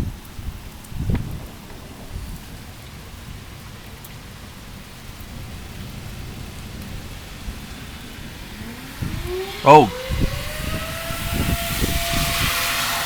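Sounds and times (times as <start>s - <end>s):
rain falling: 0.0s - 11.2s
wind buffeting microphone: 0.0s - 13.0s.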